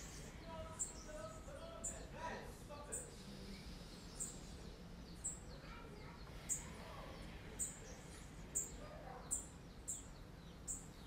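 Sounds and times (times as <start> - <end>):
small bird chirping: 0.0 - 2.2, 2.8 - 11.0
faint background noise: 0.0 - 11.0.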